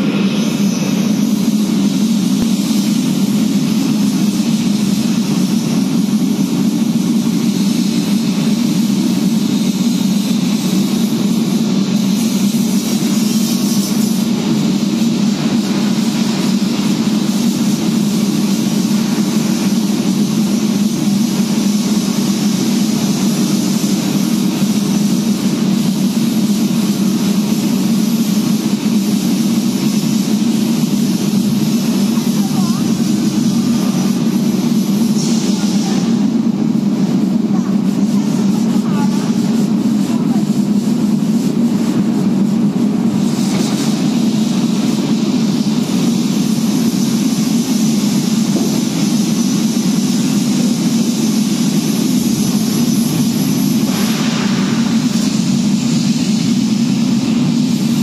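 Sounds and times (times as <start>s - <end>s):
hiss: 0.0s - 58.0s
mechanical drone: 0.0s - 58.0s.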